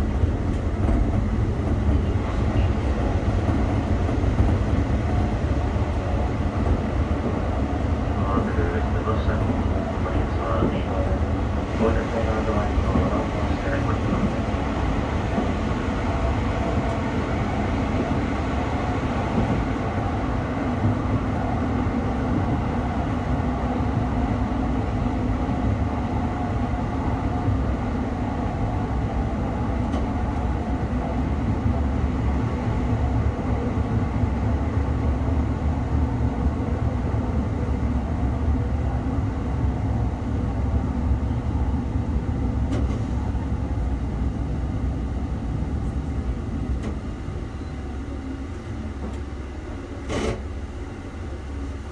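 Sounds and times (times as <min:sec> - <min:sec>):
diesel engine drone: 0:00.0 - 0:51.9.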